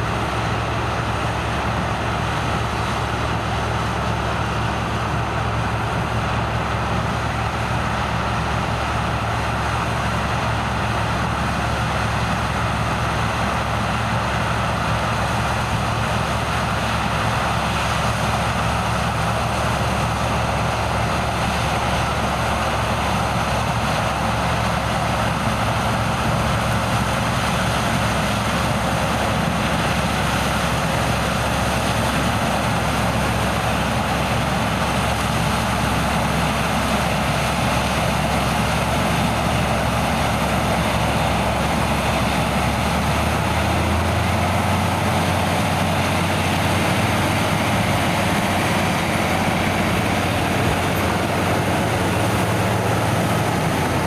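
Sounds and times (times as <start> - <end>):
diesel farm machinery running: 0.0 - 54.0.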